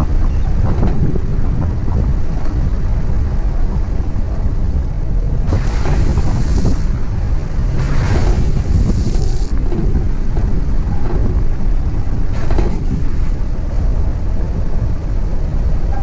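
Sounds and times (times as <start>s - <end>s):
rushing wind hisses: 0.0s - 16.0s
wind buffeting microphone: 0.0s - 16.0s.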